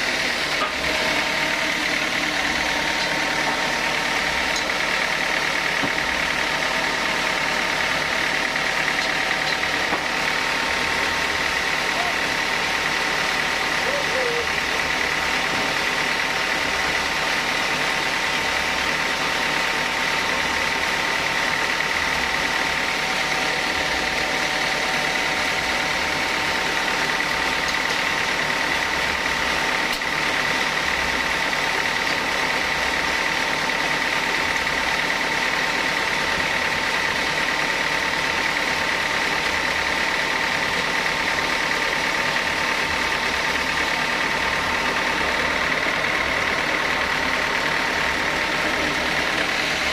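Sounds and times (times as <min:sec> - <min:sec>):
constant high whine: 0:00.0 - 0:49.9
sawmill machinery drone: 0:00.0 - 0:49.9.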